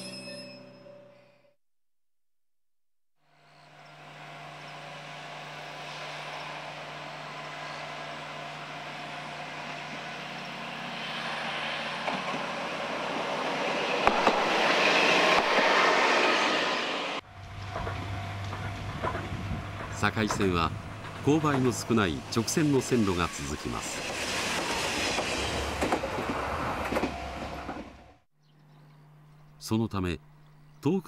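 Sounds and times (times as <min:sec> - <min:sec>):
diesel railcar approaching: 0:03.2 - 0:31.0.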